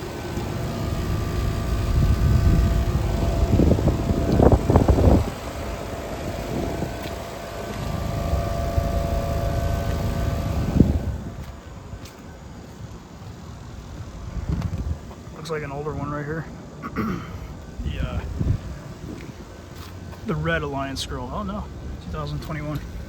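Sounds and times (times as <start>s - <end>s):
wind rumbling on microphone: 0.0s - 16.1s, 17.6s - 23.0s
air conditioning units running: 0.0s - 23.0s.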